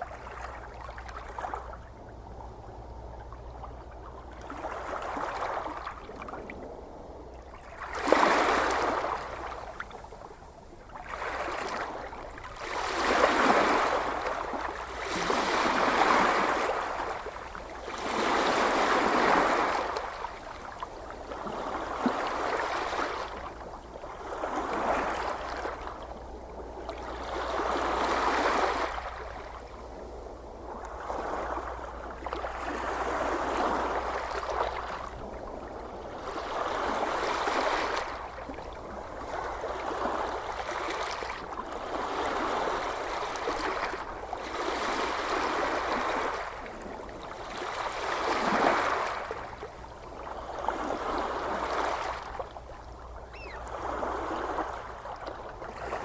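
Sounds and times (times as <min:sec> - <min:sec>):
ocean waves washing onto shore: 0:03.4 - 0:56.0.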